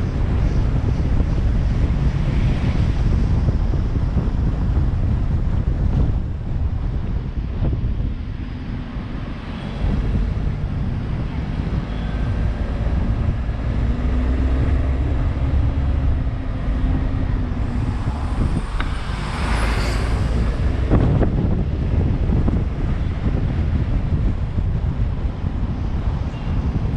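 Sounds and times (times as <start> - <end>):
rush of noise: 0.0 - 26.9
vehicle engine and road noise: 0.0 - 26.9.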